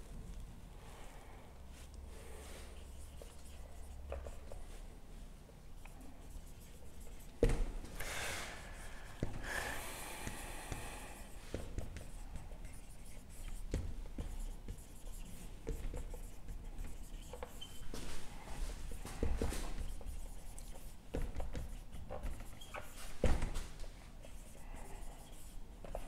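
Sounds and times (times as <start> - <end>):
marker writing on whiteboard: 2.4 - 5.0, 5.7 - 8.0, 8.6 - 9.5, 10.1 - 26.0.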